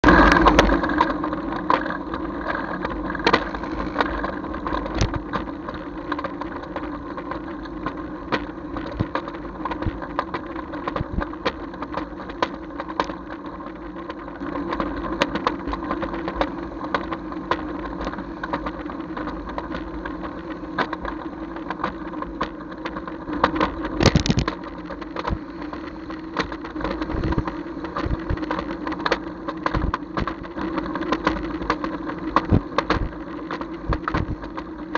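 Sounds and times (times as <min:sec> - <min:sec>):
short clicks and rattles: 0:00.0 - 0:34.9.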